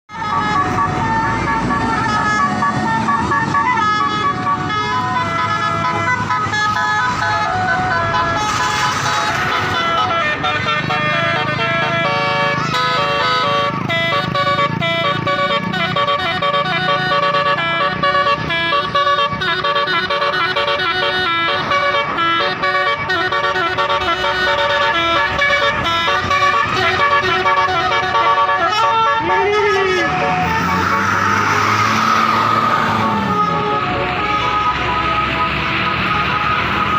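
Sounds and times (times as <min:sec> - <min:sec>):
multi-tone air horn tune: 0:00.1 - 0:36.9.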